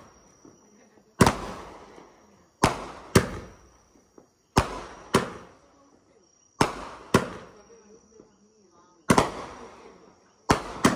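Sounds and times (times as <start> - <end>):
fireworks exploding with echo: 0.0 - 8.4, 9.0 - 10.9.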